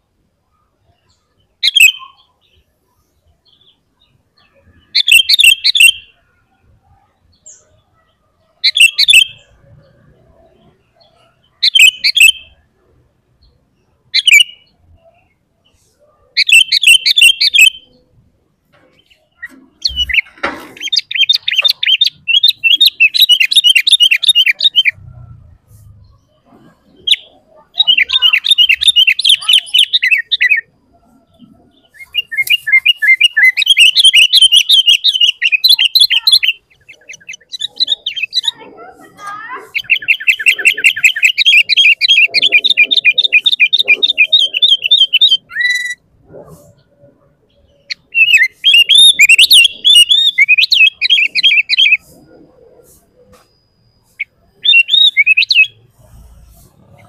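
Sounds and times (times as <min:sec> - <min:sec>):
bulbul singing: 0:00.8 - 0:02.7, 0:03.4 - 0:57.0.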